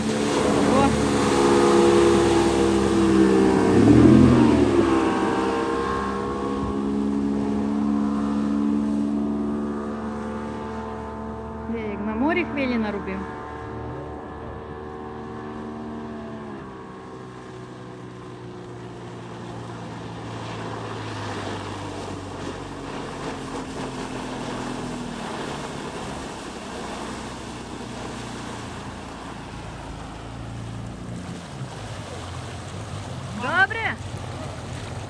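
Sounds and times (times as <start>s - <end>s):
outboard motor running: 0.0s - 35.0s
wind and water rushing: 0.0s - 35.0s.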